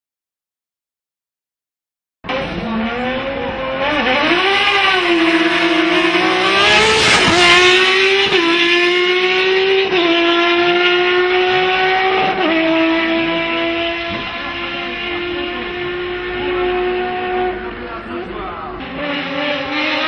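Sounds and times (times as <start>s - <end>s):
car engine revving high: 2.3s - 20.0s.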